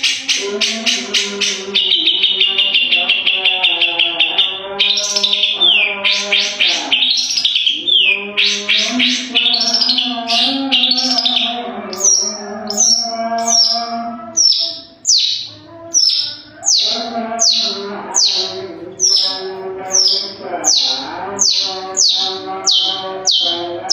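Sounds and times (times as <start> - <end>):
bird chattering high notes: 0.0 - 23.9.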